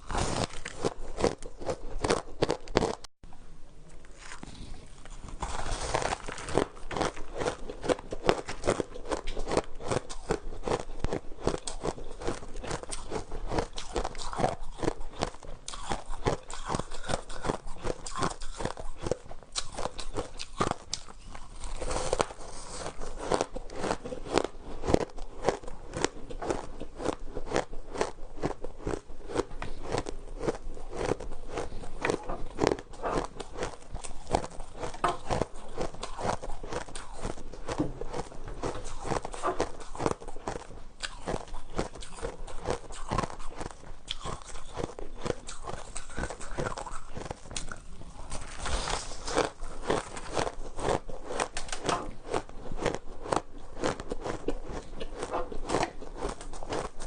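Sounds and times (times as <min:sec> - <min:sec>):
person chewing shaved ice: 0:00.0 - 0:03.1, 0:04.0 - 0:57.0.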